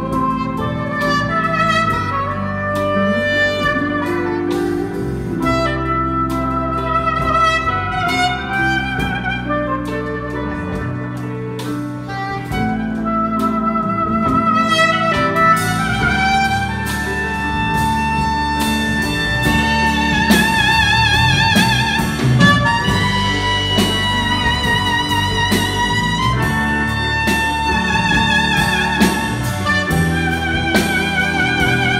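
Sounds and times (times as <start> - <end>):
jazz band backing: 0.0 - 31.9
soprano saxophone melody: 0.0 - 31.9.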